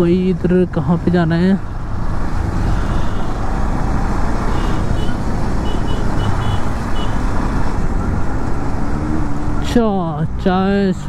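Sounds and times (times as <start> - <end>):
motorcycle engine cruising: 1.6 - 10.9.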